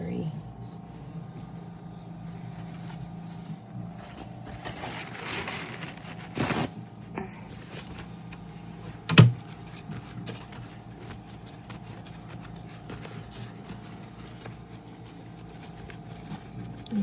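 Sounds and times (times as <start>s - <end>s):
incubator electrical hum: 0.0s - 17.0s
rustling: 2.0s - 7.0s, 7.6s - 17.0s.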